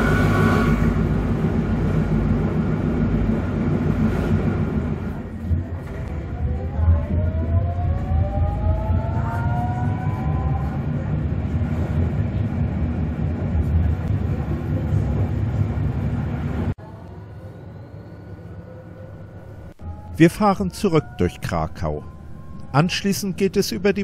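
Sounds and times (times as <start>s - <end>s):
rumble of wheels on rails: 0.0s - 24.0s
tram motors whining: 0.0s - 24.0s.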